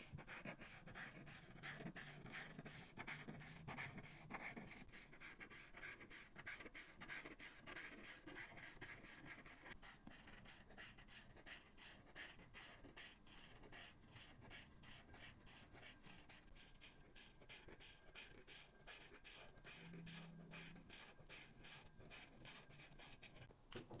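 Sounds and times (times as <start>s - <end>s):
markers scratching across paper: 0.0s - 23.5s.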